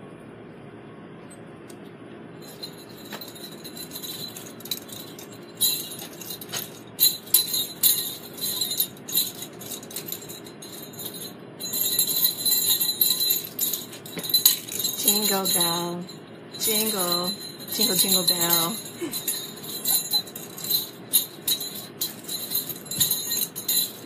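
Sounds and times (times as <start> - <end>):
small jingle bells jingling: 2.4 - 24.0.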